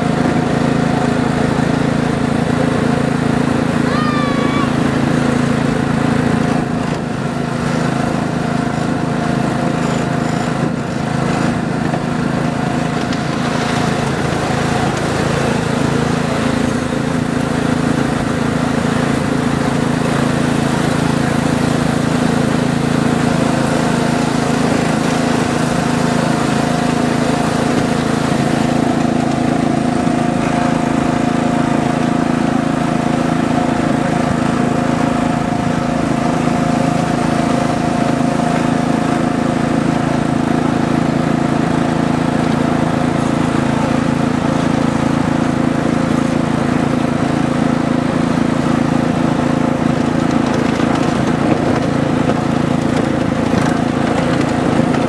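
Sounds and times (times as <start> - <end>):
small engine droning: 0.0 - 55.0.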